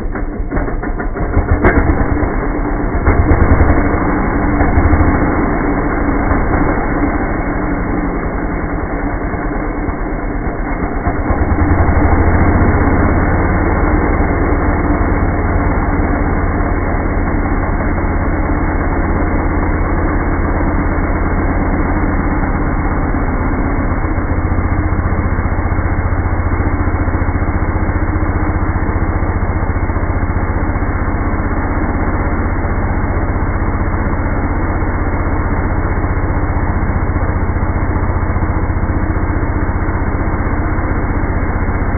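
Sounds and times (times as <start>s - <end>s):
chainsaw engine running: 0.0s - 41.9s.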